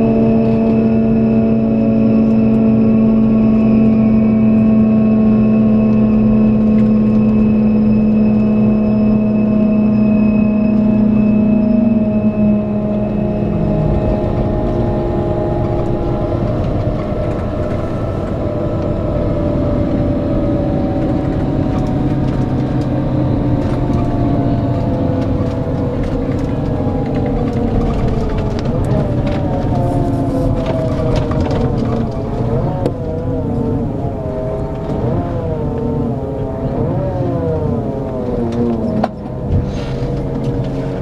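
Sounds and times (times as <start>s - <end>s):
bus diesel engine and road drone: 0.0s - 41.0s.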